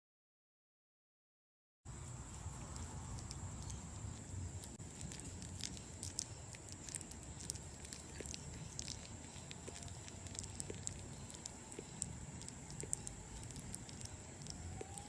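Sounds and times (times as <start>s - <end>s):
bat chewing with clicks: 1.9s - 15.0s
steady low hum: 1.9s - 15.0s.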